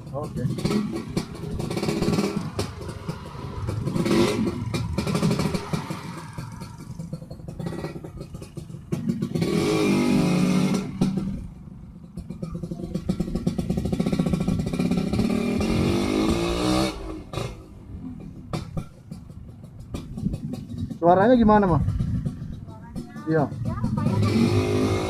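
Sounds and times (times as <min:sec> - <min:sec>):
two-stroke motorcycle engine revving: 0:00.0 - 0:17.7, 0:18.4 - 0:25.0.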